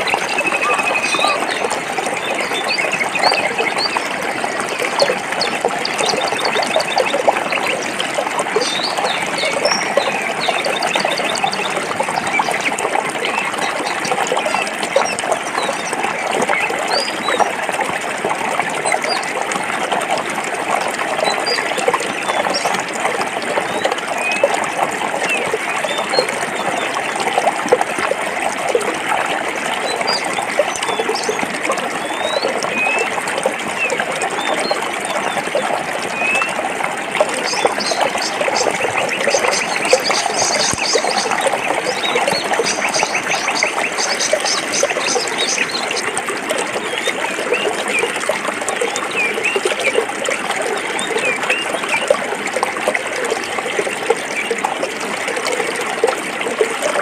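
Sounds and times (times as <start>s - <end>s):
stream babbling over rocks: 0.0s - 57.0s.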